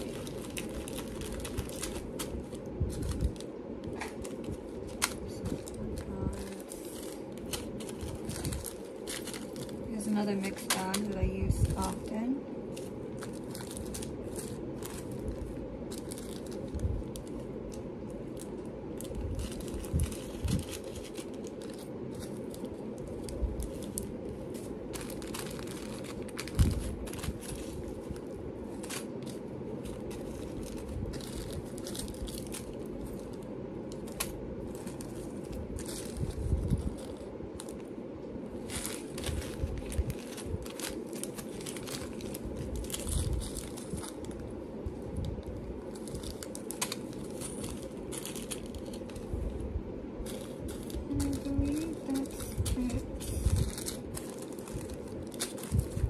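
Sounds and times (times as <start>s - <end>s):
plastic bags crinkling: 0.0s - 49.6s, 50.2s - 56.0s
steady low hum: 0.0s - 56.0s.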